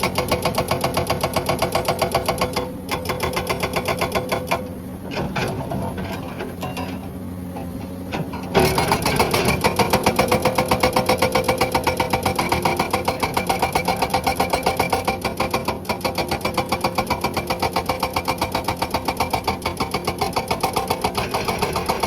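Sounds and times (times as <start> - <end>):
excavator engine running: 0.0 - 22.0
hydraulic rock breaker hammering: 0.0 - 22.0.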